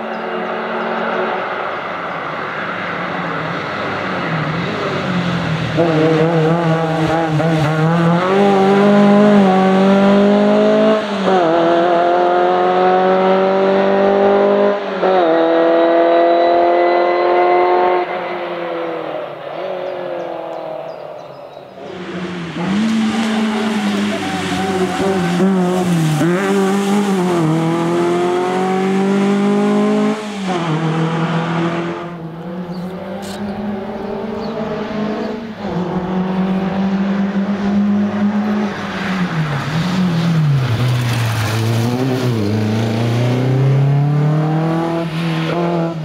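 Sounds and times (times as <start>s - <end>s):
rally car engine at full throttle: 0.0s - 46.0s.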